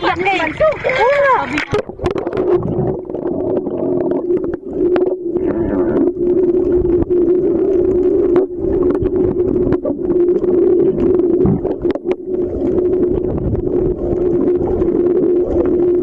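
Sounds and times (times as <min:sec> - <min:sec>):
boat engine hum underwater: 0:00.0 - 0:16.0
muffled water rumbling and crackling: 0:00.0 - 0:16.0.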